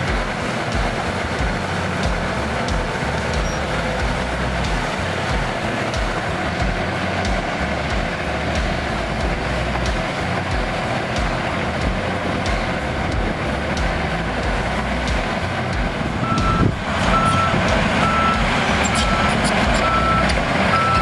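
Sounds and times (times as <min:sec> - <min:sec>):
dozer diesel engine running: 0:00.0 - 0:21.0.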